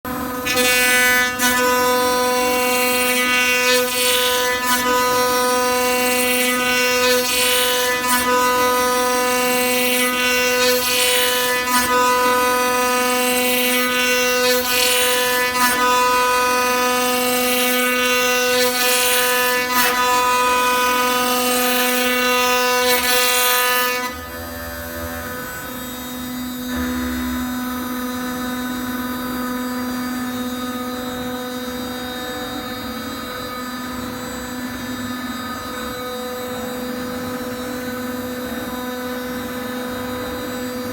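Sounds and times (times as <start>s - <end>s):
router bit cutting wood: 0.1s - 40.9s
router spindle whine: 0.1s - 40.9s.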